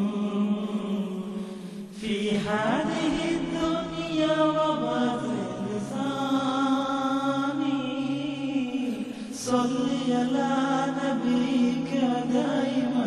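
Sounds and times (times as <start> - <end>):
chant-like voices holding notes: 0.0 - 13.0.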